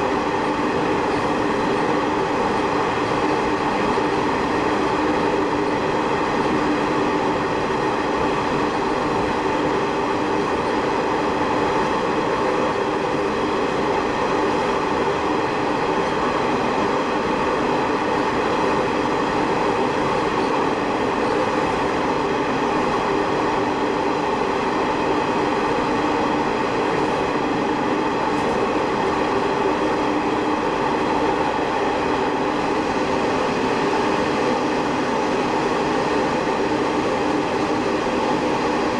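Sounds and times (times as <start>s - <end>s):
diesel railcar engine: 0.0s - 38.9s.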